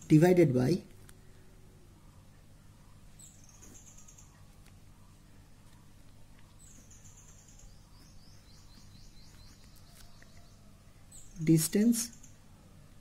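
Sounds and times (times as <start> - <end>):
low steady hum: 0.0 - 13.0
faint high bird chirping: 1.8 - 13.0.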